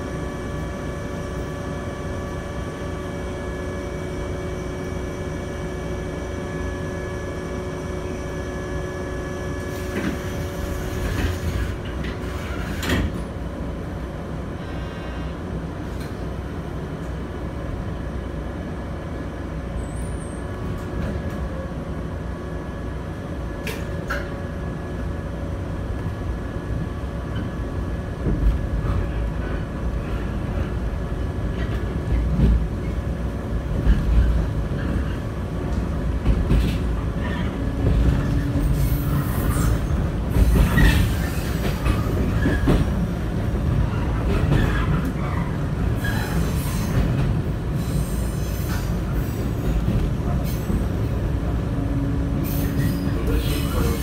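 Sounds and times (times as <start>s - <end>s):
railcar clunk and rumble: 0.0s - 54.0s.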